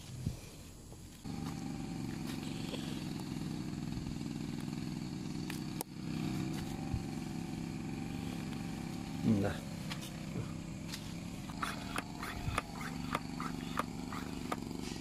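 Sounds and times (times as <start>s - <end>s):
small engine running: 1.1s - 15.0s.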